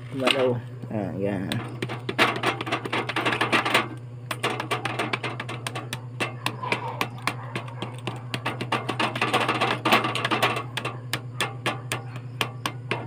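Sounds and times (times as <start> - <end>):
metal tool tapping: 1.5 - 13.0.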